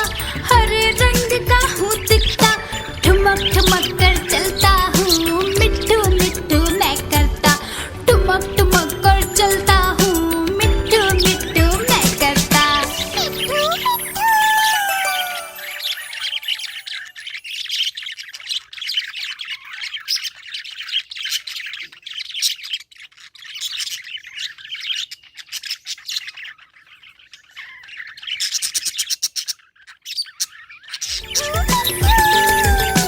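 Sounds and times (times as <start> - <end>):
budgerigars chirping and chattering: 0.0 - 14.1, 15.2 - 33.0.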